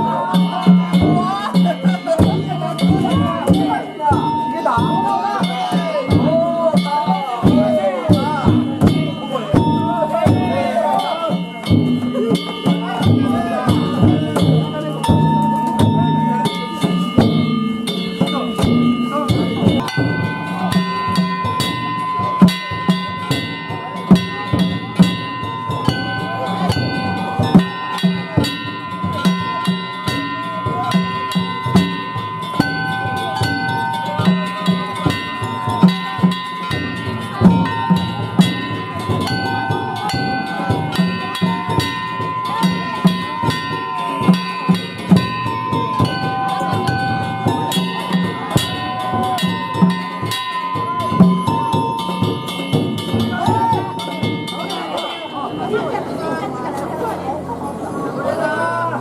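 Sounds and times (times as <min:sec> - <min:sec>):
drum beat: 0:00.0 - 0:56.4
high held melody: 0:00.0 - 0:57.4
clanging gongs: 0:00.0 - 0:58.8.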